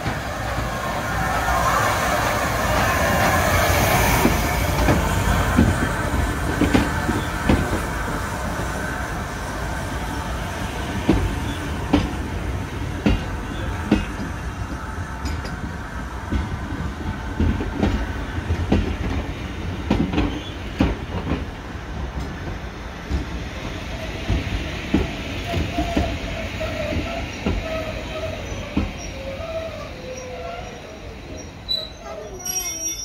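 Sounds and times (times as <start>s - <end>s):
train coaches rumbling past: 0.0s - 33.0s.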